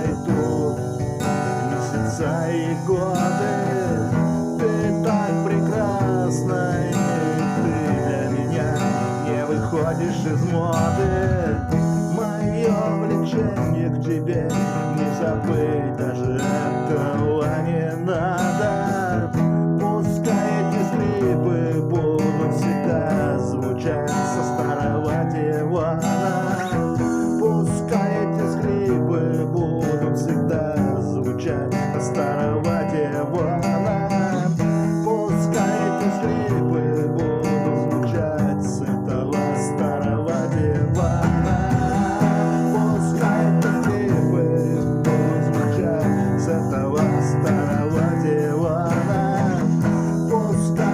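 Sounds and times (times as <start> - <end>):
acoustic guitar playing: 0.0 - 50.9.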